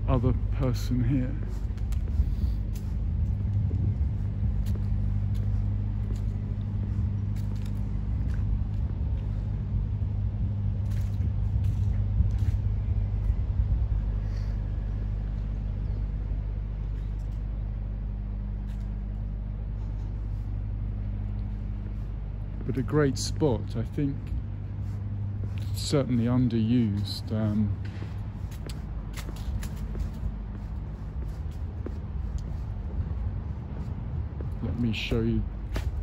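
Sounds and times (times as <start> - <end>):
city hum and rumble: 0.0 - 36.0.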